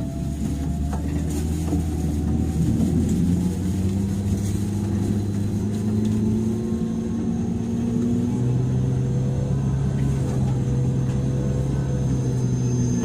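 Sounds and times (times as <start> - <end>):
electric train motor hum rising: 0.0 - 13.0.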